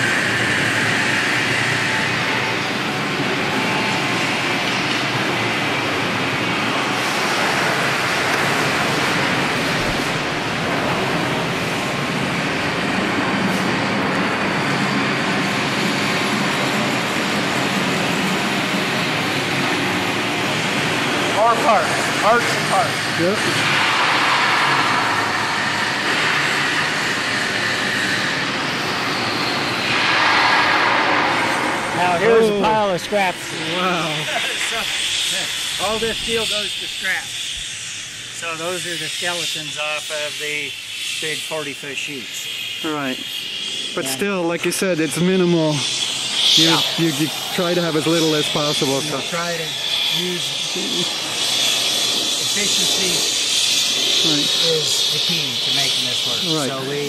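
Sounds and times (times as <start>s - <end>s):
machinery rushing hiss: 0.0s - 57.0s.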